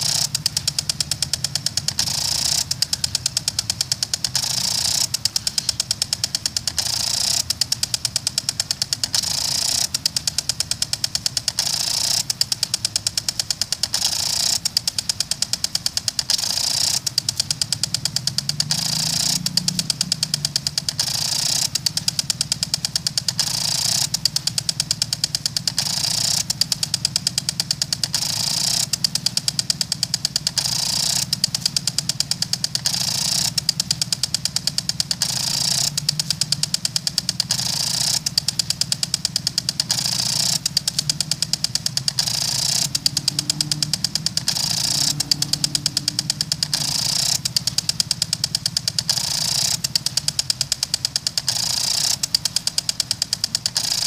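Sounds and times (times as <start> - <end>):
sprinkler arm ticking rapidly: 0.0 - 54.0.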